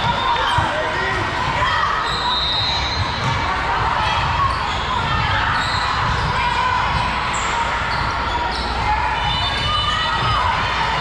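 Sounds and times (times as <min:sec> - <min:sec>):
sneaker squeaks: 0:00.0 - 0:10.5
crowd chattering: 0:00.0 - 0:11.0.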